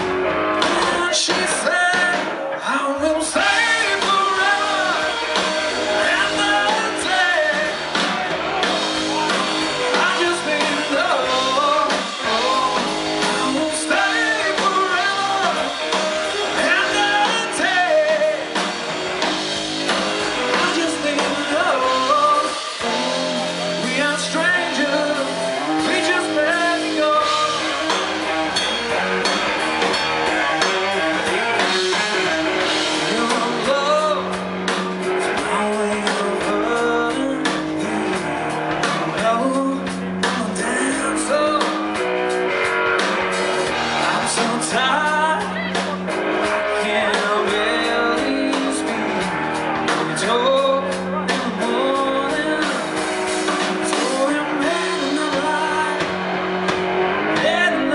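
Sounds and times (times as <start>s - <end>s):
steady drum beat: 0.0s - 2.4s, 3.0s - 57.9s
lead vocal singing: 0.0s - 19.3s, 19.9s - 29.4s, 30.2s - 42.0s, 43.0s - 57.9s
electric guitar: 0.0s - 57.9s.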